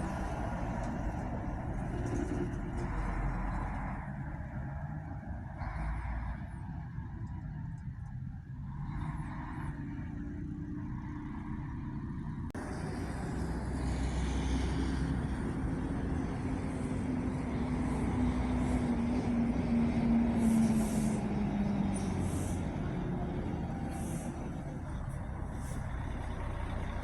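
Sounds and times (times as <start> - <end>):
diesel coach engines running: 0.0 - 27.0.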